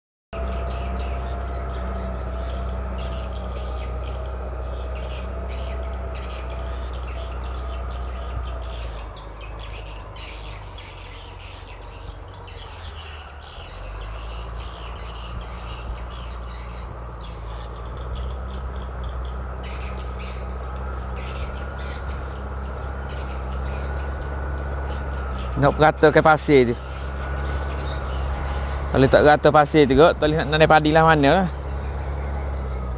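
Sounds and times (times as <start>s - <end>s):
birds calling: 0.3s - 32.9s
machine engine droning: 0.3s - 32.9s
insects chirping: 0.4s - 32.9s.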